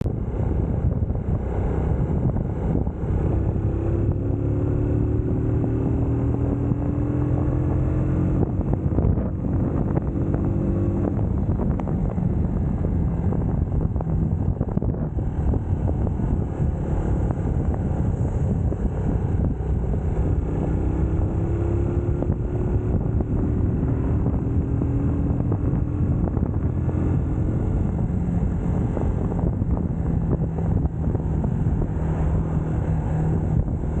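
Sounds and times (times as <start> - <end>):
motorcycle engine accelerating: 0.0 - 34.0
wind buffeting microphone: 0.0 - 34.0.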